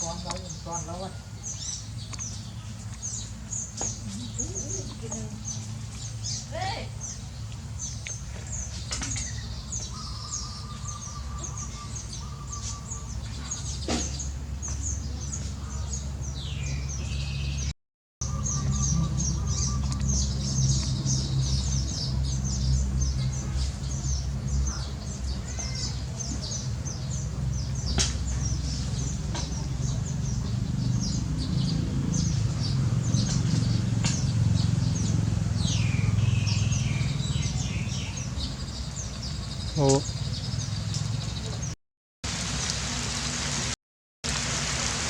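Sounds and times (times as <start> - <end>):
small birds chirping: 0.0 - 41.8.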